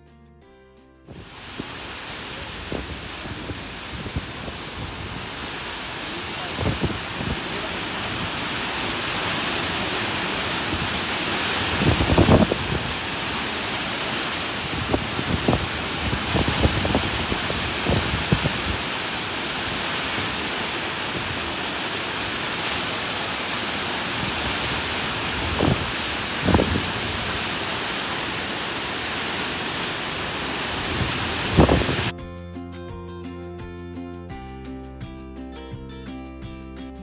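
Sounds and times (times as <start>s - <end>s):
rushing water: 1.1s - 32.1s.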